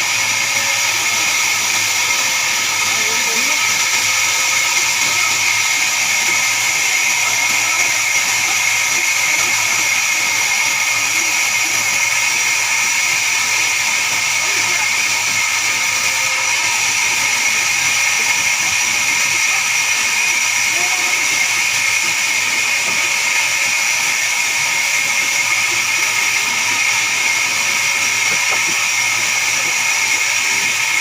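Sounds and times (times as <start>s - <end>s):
band saw whining: 0.0s - 31.0s.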